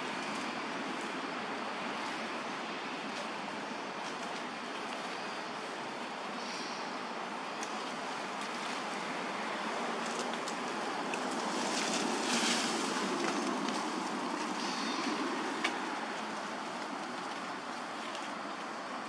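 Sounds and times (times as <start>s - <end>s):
leaves and twigs rustling: 0.0s - 19.0s.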